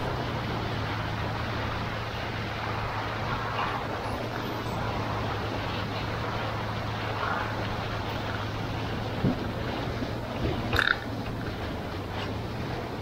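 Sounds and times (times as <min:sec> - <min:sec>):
tyres through water: 0:00.0 - 0:13.0
vehicle engine hum: 0:00.0 - 0:13.0.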